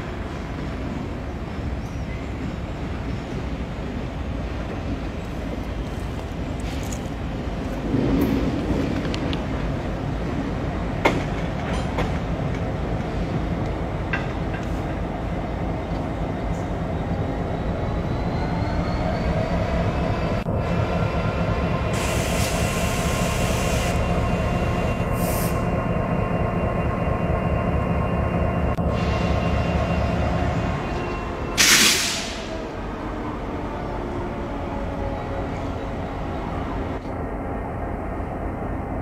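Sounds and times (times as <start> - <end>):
train rumble on rails: 0.0 - 39.0.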